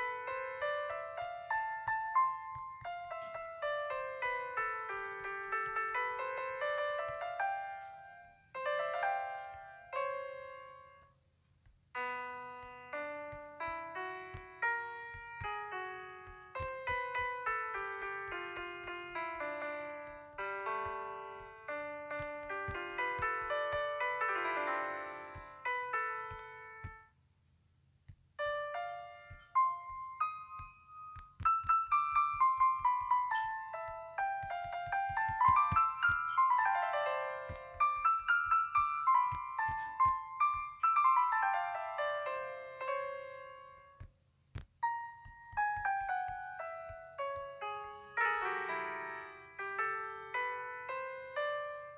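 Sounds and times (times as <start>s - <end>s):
slow piano melody: 0.0s - 27.2s, 28.3s - 51.9s.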